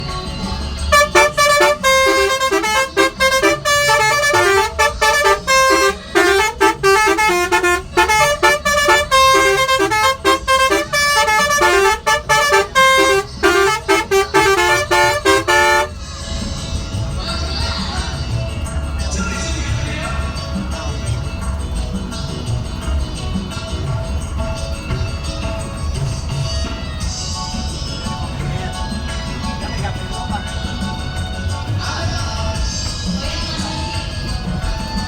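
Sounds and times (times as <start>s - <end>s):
musical bus horn tune: 0.0s - 35.0s.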